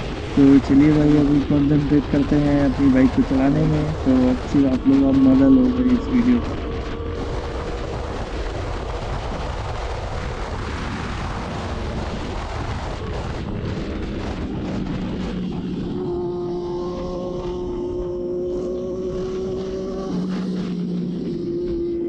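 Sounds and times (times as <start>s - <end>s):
motorcycle engine running: 0.0s - 22.0s
wind rush on microphone: 0.0s - 22.0s.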